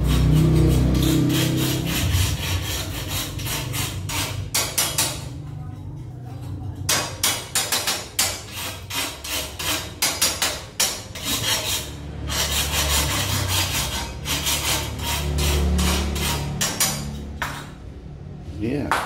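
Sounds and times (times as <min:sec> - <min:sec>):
scraping at charcoal grill: 0:00.0 - 0:17.7.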